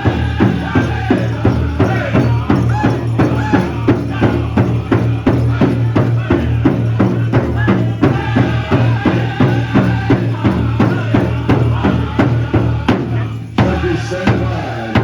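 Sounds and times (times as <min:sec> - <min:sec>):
big drum beating fast: 0:00.0 - 0:15.0
singers' voices: 0:00.0 - 0:15.0.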